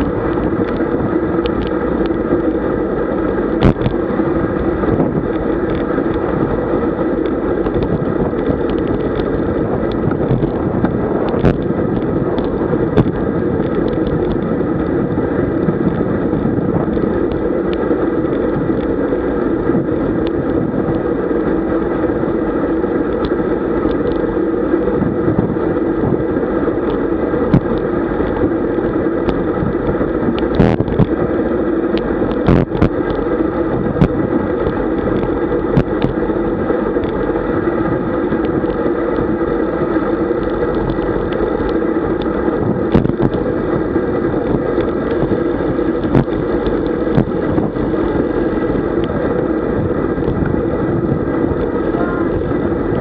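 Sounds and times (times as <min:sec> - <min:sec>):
bicycle tyre and road noise: 0:00.0 - 0:53.0
wind rushing over microphone: 0:00.0 - 0:53.0.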